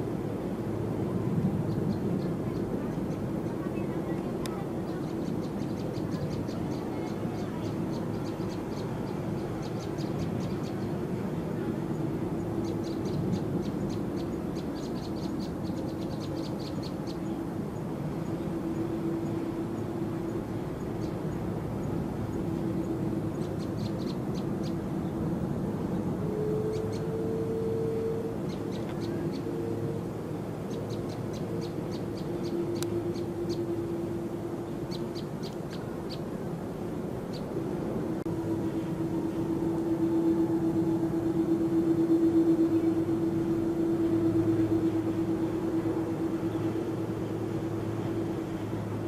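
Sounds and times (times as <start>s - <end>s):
distant jet aircraft rumble: 0.0s - 49.0s
steady hum: 0.0s - 49.0s
steady low drone: 0.0s - 49.0s.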